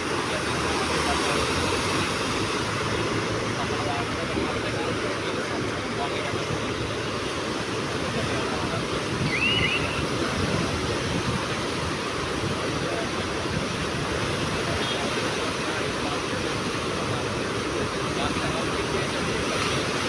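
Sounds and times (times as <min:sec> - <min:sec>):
sea surf washing onto shore: 0:00.0 - 0:20.0.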